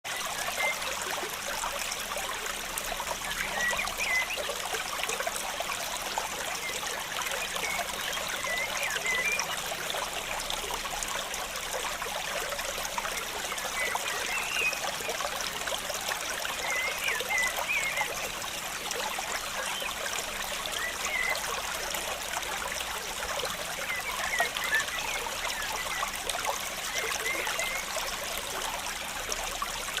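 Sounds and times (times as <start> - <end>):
water trickling and splashing: 0.1 - 30.0.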